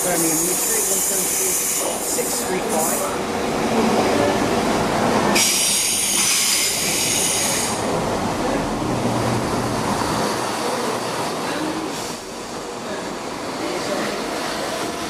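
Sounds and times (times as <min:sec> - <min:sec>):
train rumbling past slowly: 0:00.0 - 0:15.0.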